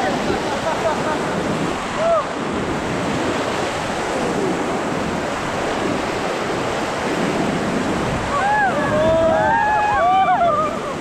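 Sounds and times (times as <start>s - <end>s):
whitewater river rushing: 0.0s - 11.0s.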